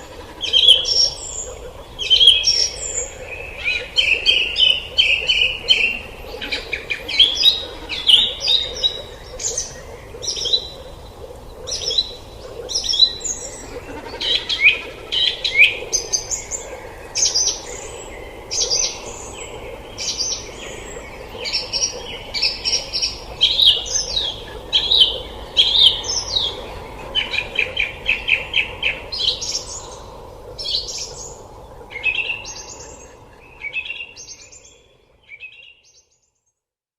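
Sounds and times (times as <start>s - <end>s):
steady background noise: 0.0s - 35.3s
birds chirping: 0.0s - 36.2s.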